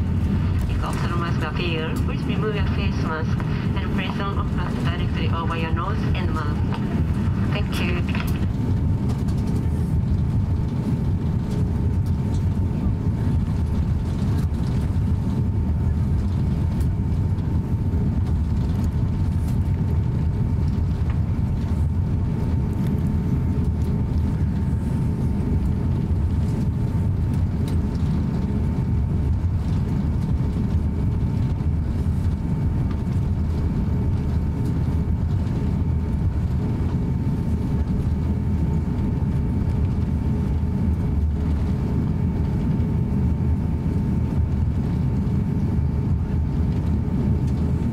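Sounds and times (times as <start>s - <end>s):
aircraft engines low rumble: 0.0s - 47.9s
thin steady whine: 0.0s - 47.9s.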